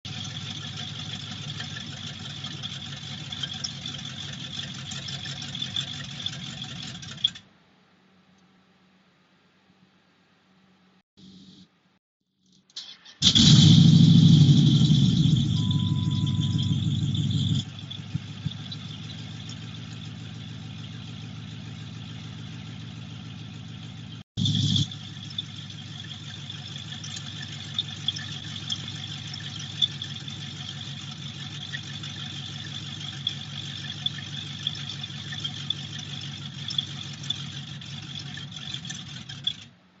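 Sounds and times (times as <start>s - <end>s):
car engine idling: 0.0s - 7.5s, 13.0s - 40.0s.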